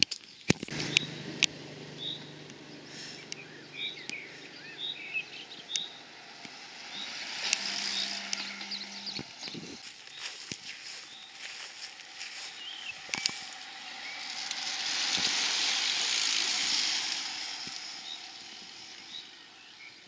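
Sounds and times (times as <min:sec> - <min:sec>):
bicycle tyres hissing on asphalt: 0:00.6 - 0:20.0.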